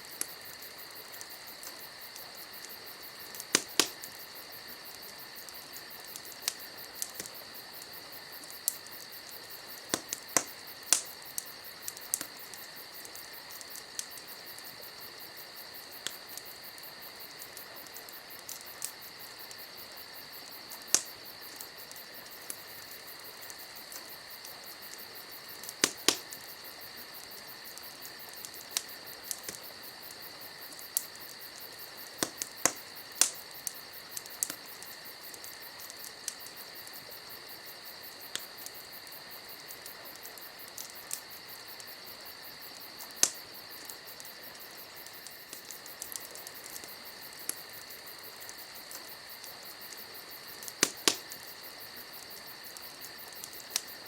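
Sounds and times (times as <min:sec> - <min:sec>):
campfire crackling and popping: 0:00.0 - 0:54.0
crickets chirring: 0:00.0 - 0:54.0.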